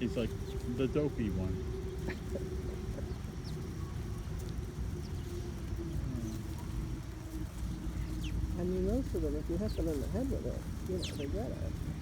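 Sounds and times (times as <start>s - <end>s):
low hum and rumble: 0.0s - 12.0s
small birds chirping: 0.0s - 12.0s.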